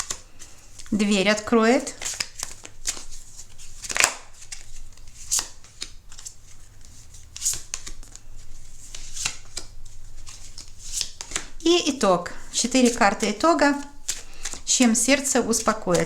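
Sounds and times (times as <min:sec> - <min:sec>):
cards flicking and slapping: 0:02.0 - 0:11.6, 0:12.8 - 0:16.0.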